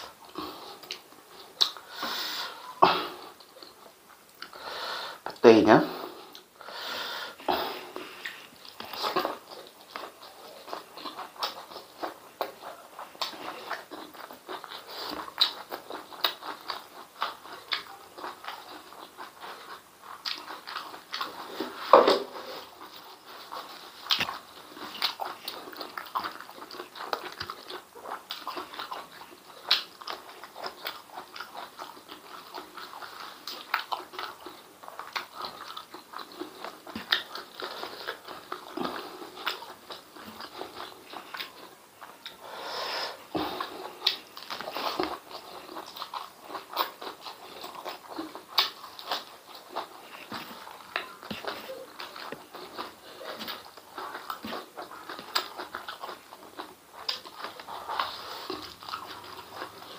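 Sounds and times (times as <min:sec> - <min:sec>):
wet chewing and lip-smacking: 0:00.0 - 0:04.6, 0:06.1 - 0:06.5, 0:07.4 - 0:42.6, 0:43.2 - 0:59.9.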